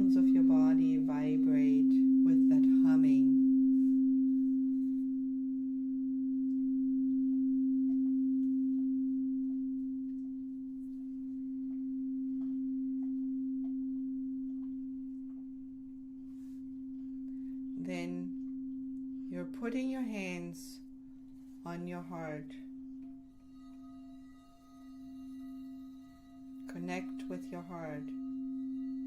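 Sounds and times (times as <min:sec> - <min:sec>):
steady mid-pitched pure tone: 0:00.0 - 0:29.0.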